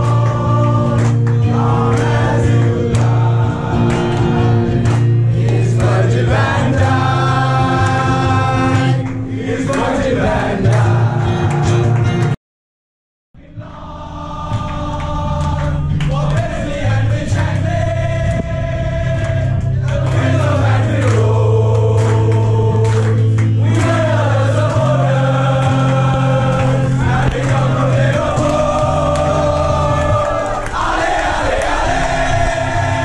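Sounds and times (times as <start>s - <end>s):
football supporters chanting: 0.0s - 12.0s, 13.4s - 33.0s.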